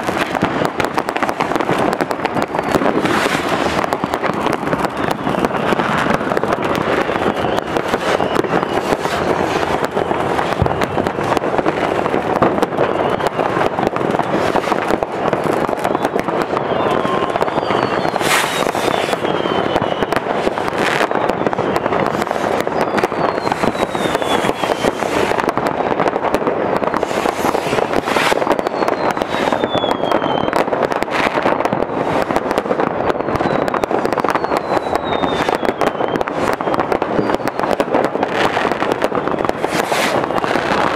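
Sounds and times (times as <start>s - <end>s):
falling firework whistles: 0.0s - 40.9s
fireworks crackling and banging: 0.0s - 40.9s.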